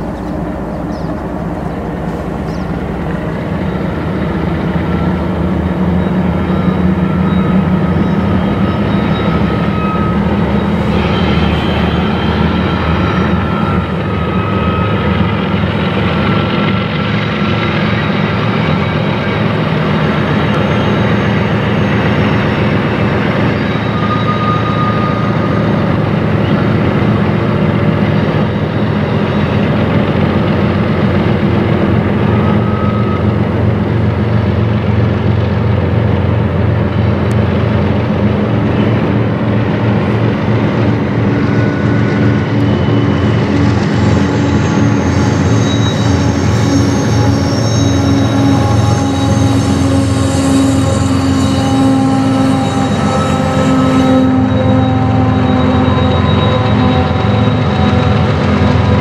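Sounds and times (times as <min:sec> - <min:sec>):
high wheel squeals: 0:00.0 - 0:59.0
locomotive engine drone: 0:00.0 - 0:59.0
train rumbling on rails: 0:00.0 - 0:59.0.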